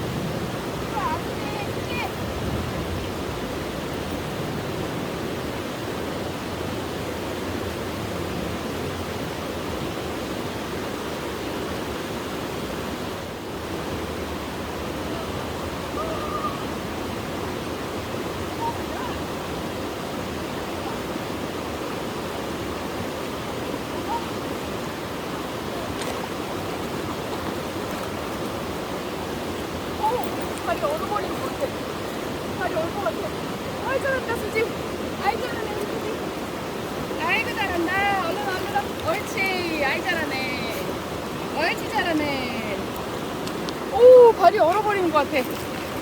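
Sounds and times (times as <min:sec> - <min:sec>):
river rushing over rocks: 0:00.0 - 0:46.0.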